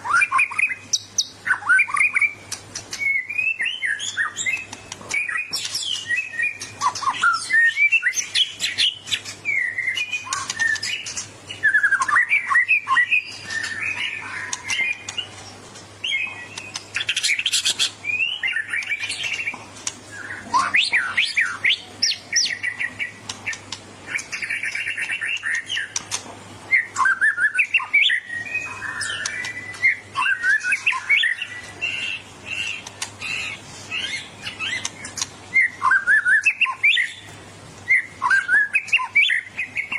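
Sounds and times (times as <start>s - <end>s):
bird singing whistles and chirps: 0.0s - 26.1s, 26.7s - 39.9s.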